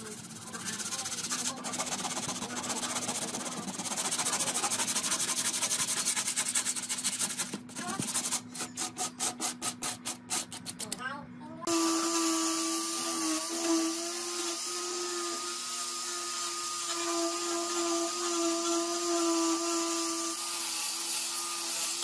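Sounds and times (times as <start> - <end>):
sandpaper rubbing on wood: 0.0 - 10.8, 13.2 - 20.4.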